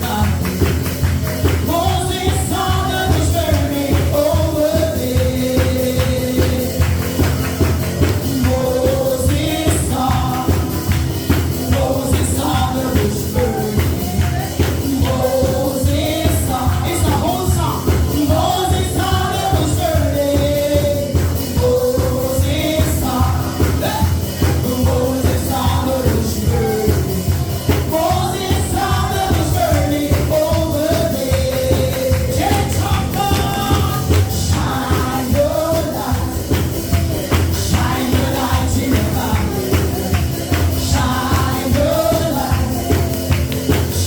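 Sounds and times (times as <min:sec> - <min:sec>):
gospel singing with band: 0:00.0 - 0:44.0.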